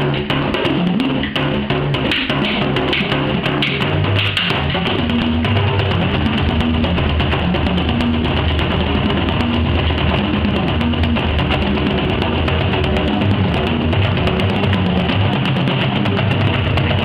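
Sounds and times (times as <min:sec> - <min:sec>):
frame drums fast rhythm: 0:00.0 - 0:17.0.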